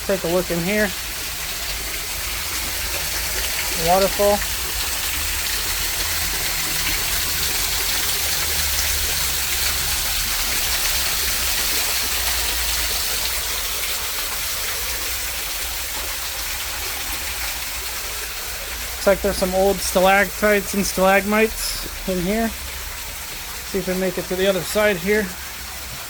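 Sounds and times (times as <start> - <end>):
waterfall pouring: 0.0 - 26.0.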